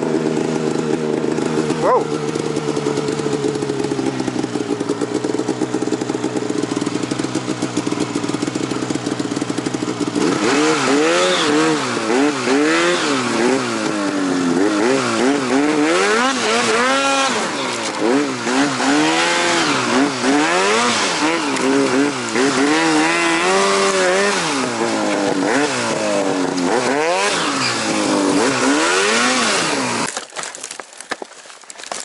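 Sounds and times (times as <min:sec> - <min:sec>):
snowmobile engine revving: 0:00.0 - 0:30.1.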